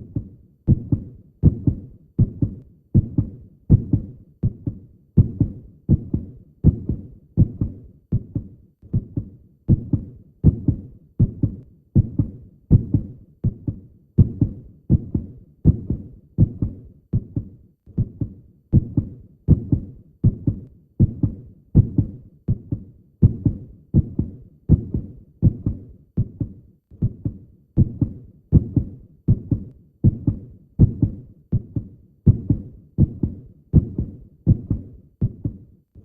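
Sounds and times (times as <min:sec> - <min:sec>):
heartbeat thumps: 0:00.0 - 0:35.7.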